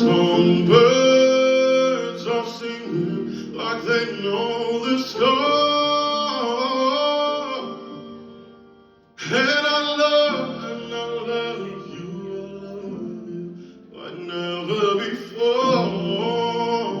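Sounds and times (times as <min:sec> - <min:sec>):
man singing without words: 0:00.0 - 0:08.4, 0:09.2 - 0:17.0.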